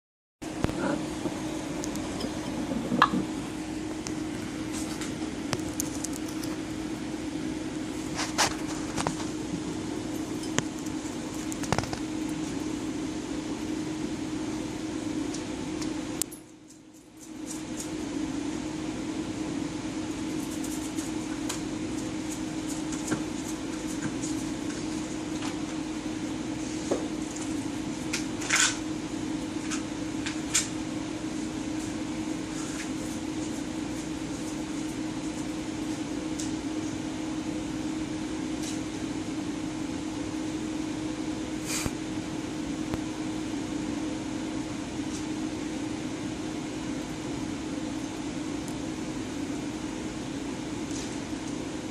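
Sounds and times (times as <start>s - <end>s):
low machine hum: 0.4s - 51.9s.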